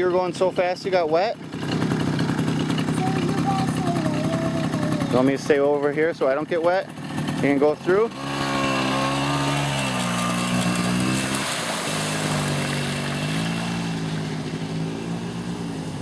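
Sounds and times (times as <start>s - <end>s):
small dirt bike engine running: 0.0s - 16.0s.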